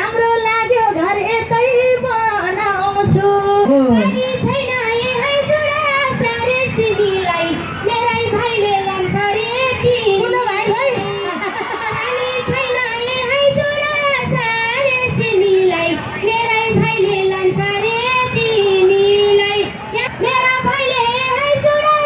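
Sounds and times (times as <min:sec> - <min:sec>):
woman singing into a microphone: 0:00.0 - 0:22.0.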